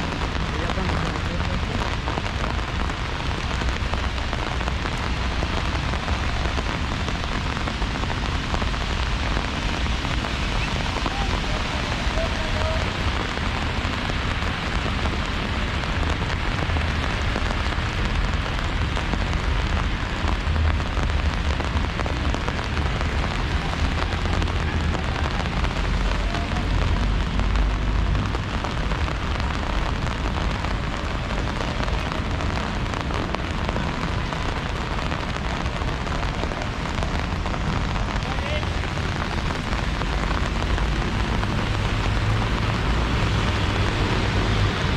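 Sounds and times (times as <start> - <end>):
rain splashing on hard surfaces: 0.0 - 44.9.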